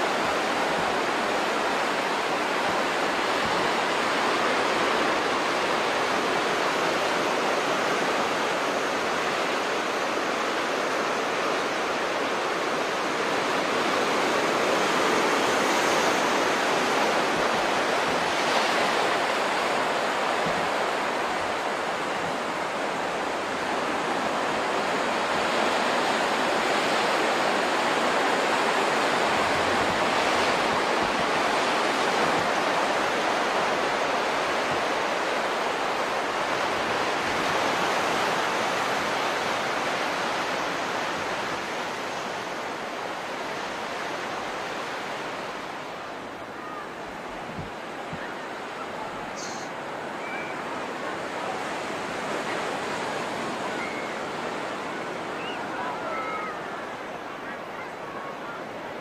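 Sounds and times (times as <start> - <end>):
waves washing onto beach: 0.0 - 59.0.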